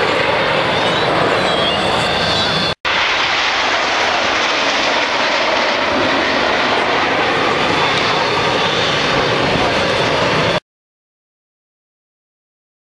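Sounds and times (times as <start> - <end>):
distant jets passing: 0.0 - 10.6.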